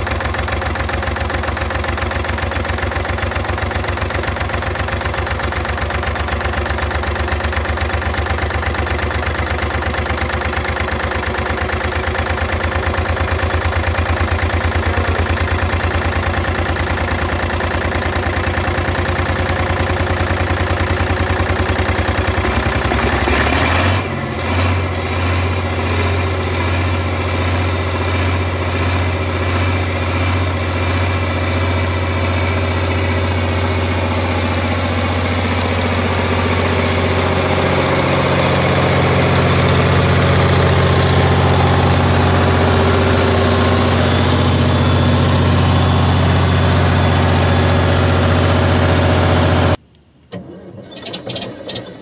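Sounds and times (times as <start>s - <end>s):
large diesel engine running: 0.0s - 51.9s.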